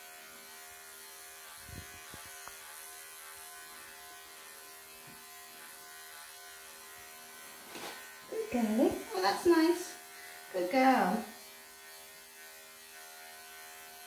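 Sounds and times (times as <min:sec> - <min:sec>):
electric clippers humming: 0:00.0 - 0:14.0.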